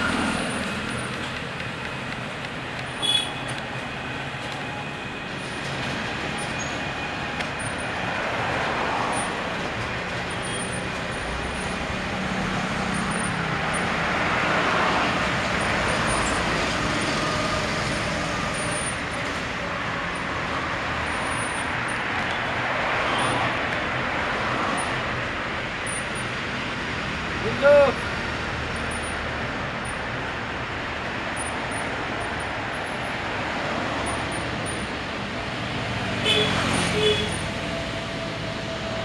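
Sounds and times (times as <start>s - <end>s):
busy road traffic: 0.0s - 39.0s.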